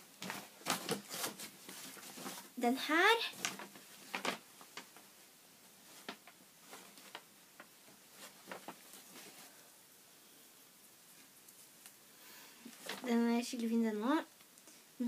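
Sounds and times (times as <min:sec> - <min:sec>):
faint clicks and rustles: 0:00.0 - 0:09.8, 0:10.8 - 0:14.9.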